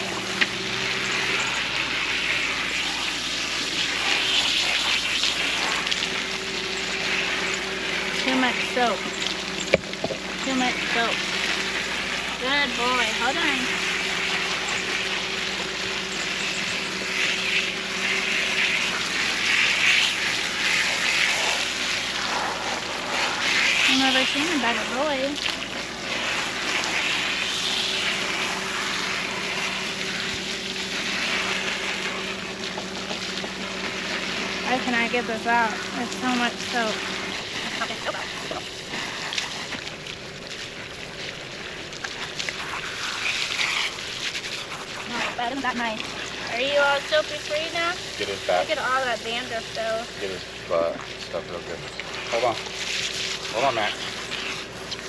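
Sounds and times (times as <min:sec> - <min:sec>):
hose water spraying and splashing: 0:00.0 - 0:55.0
steady low hum: 0:00.0 - 0:55.0.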